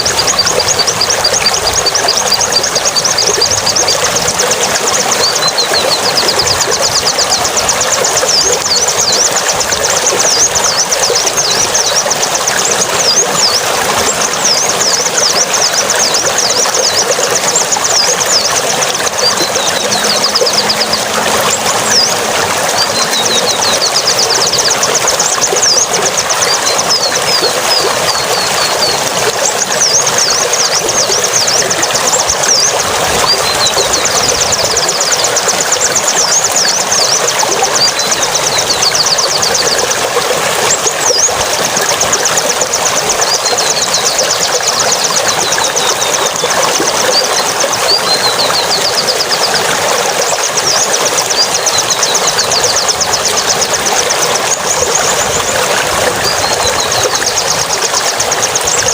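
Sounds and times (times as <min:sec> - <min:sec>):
rushing water noise: 0:00.0 - 0:58.9
songbird chirps and trills: 0:00.0 - 0:58.9.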